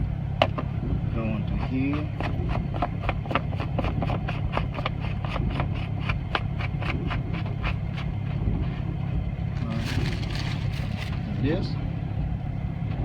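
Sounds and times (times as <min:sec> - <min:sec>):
steady low rumble: 0:00.0 - 0:02.8, 0:05.2 - 0:13.0.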